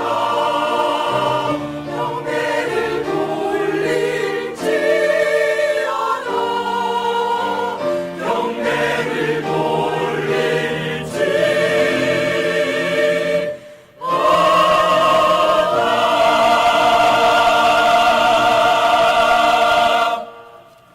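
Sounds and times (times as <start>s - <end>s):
choir singing a hymn: 0.0s - 20.9s.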